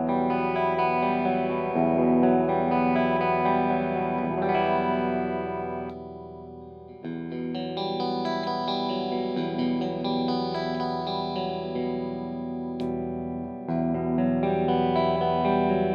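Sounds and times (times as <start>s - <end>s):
electric guitar chords ringing: 0.0s - 15.9s.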